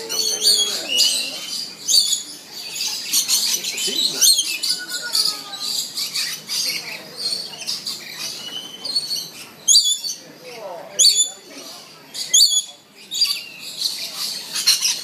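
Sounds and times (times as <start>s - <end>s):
flock of lorikeets calling: 0.0s - 15.0s.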